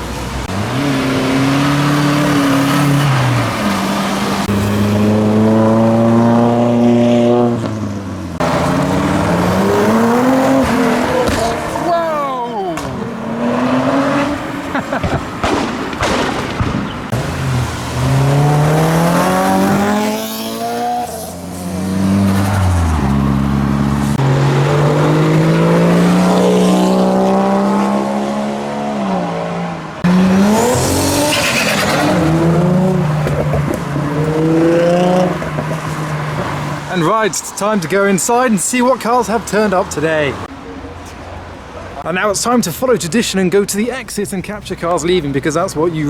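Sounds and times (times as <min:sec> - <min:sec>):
cars revving past: 0:00.0 - 0:42.1.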